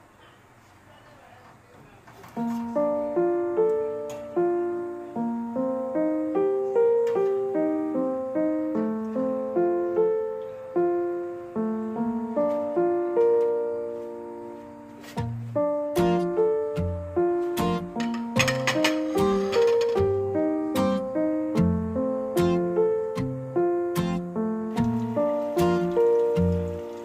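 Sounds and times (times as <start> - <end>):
slow piano melody: 2.4 - 27.0.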